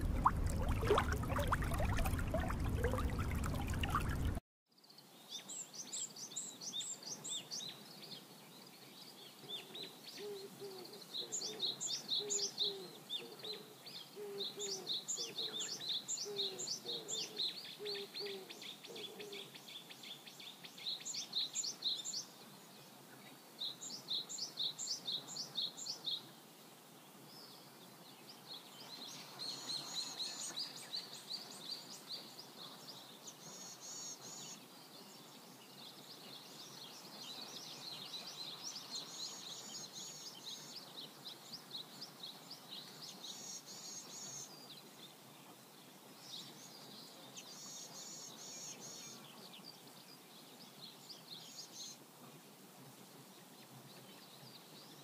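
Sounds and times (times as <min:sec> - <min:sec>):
songbirds singing: 0:00.0 - 0:26.3, 0:27.2 - 0:52.4.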